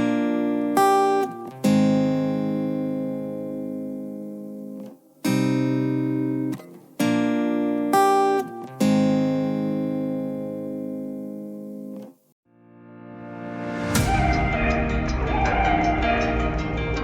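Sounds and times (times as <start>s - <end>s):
guitar chords ringing: 0.0s - 17.0s.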